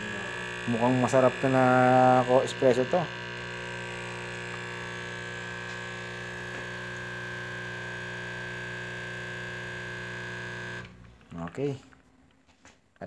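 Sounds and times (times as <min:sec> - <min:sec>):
coffee machine pump humming: 0:00.0 - 0:11.6.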